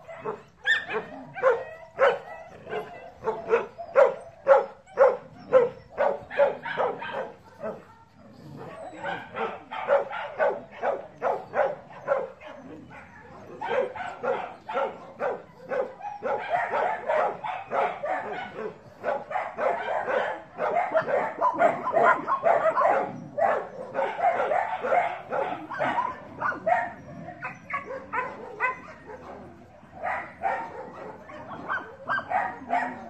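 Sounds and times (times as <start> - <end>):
dogs barking and yipping: 0.0 - 33.0.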